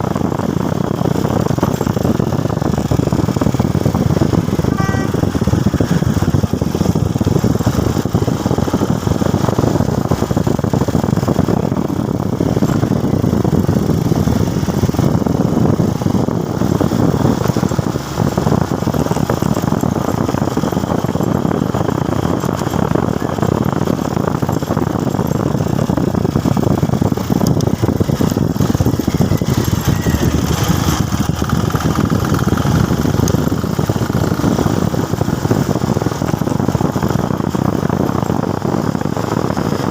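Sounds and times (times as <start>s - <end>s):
motorcycle engine rumble: 0.0s - 39.9s
road noise: 0.0s - 39.9s.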